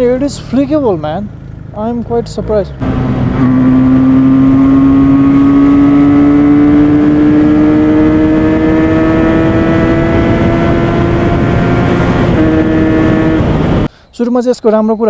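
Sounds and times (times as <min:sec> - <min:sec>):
motorbike engine accelerating: 0:00.0 - 0:13.9.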